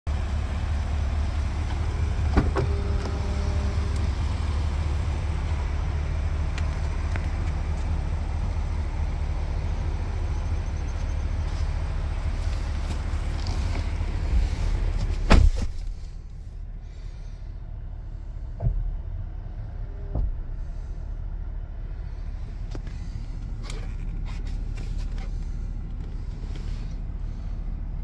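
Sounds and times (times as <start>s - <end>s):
car engine idling: 0.1s - 28.0s.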